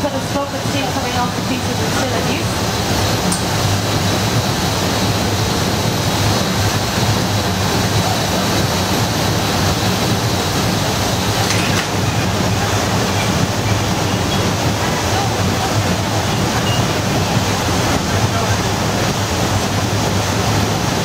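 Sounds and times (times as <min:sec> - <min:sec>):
low industrial rumble: 0:00.0 - 0:21.0.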